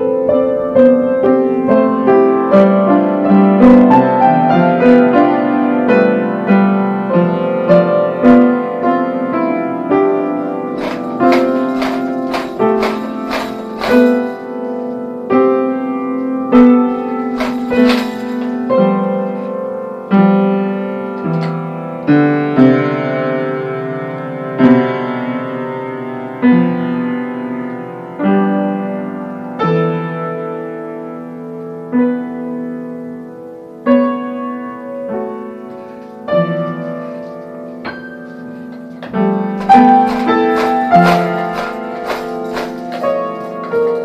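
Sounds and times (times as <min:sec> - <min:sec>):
piano chords and notes: 0:00.0 - 0:44.0.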